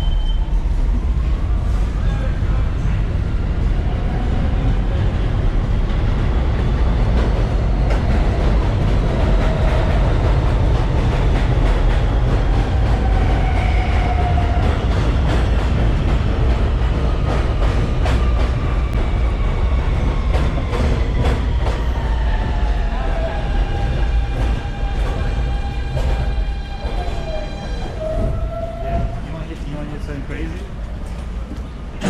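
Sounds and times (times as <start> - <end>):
subway train rumble: 0.0 - 32.0.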